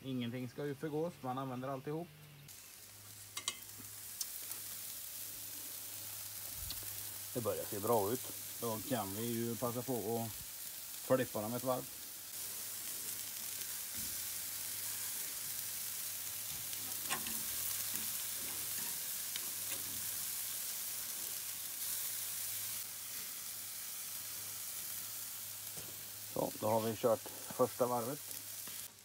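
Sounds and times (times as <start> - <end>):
steaks sizzling on a grill: 0.1 - 29.0.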